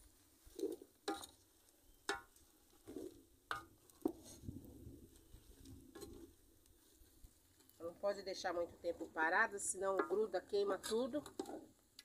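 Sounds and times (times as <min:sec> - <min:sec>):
wooden spoon scraping a pot: 0:00.4 - 0:07.8, 0:08.9 - 0:11.8.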